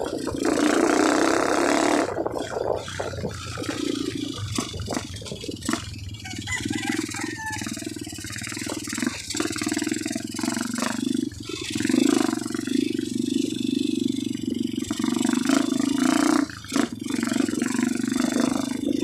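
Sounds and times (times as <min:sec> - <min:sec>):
bike rattling over rough trail: 0:00.0 - 0:19.0
dirt bike engine droning: 0:00.0 - 0:19.0.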